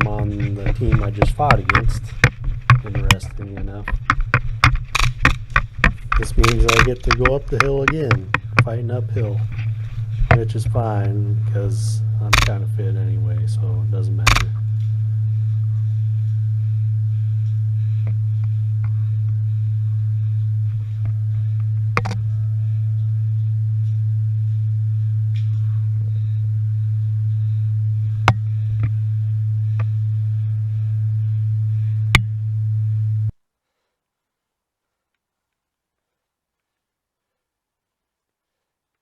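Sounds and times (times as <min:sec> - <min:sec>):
low electronic hum: 0:00.0 - 0:33.6.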